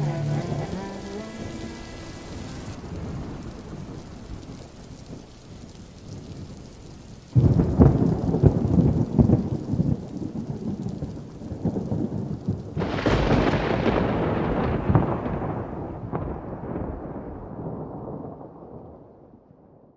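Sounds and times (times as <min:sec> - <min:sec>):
thunder clap rumbling: 0:00.0 - 0:05.4, 0:07.4 - 0:19.1
rain: 0:00.0 - 0:19.8.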